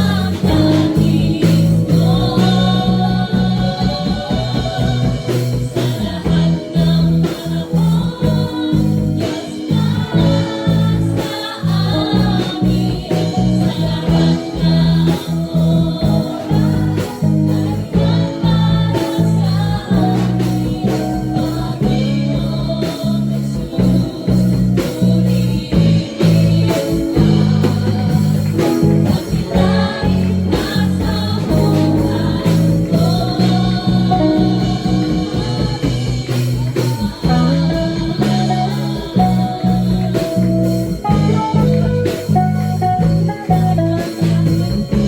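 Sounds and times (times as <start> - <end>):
gospel worship song: 0.0 - 45.0
guitar: 0.0 - 45.0
steady beat: 0.0 - 45.0.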